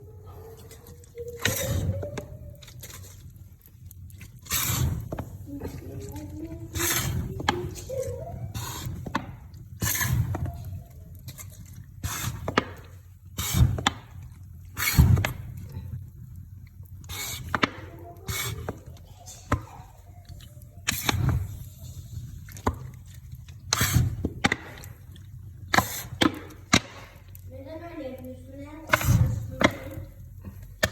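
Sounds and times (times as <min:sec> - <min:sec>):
clicks and crackles: 0:00.2 - 0:30.9.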